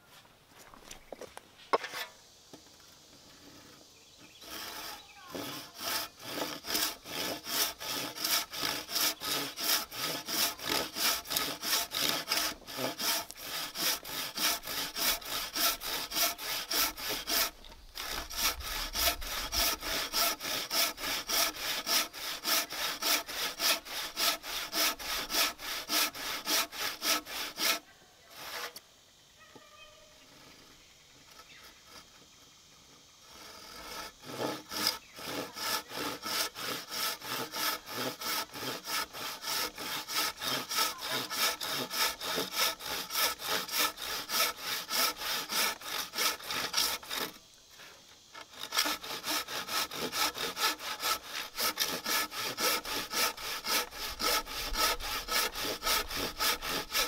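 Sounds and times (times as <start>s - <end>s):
hand saw cutting wood: 1.8s - 2.2s, 3.4s - 28.8s, 33.2s - 57.0s.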